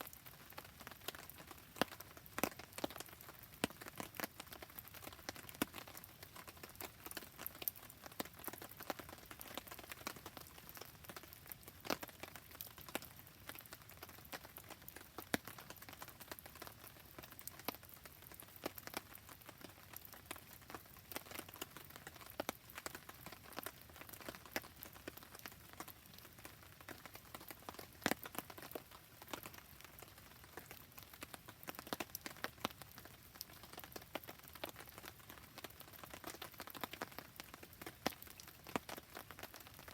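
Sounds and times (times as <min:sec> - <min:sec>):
crackling wood campfire: 0:00.0 - 0:39.9
rain falling: 0:00.0 - 0:39.9.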